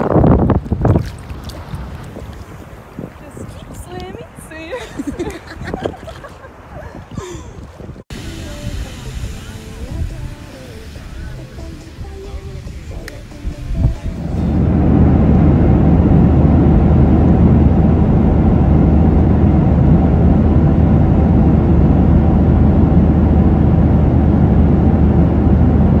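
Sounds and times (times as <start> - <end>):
moving vehicle rumble: 4.1 - 26.0.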